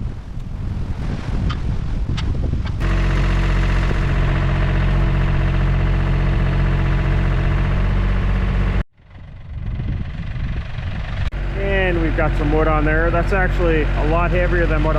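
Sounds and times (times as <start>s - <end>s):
tractor diesel engine running: 2.8s - 14.9s.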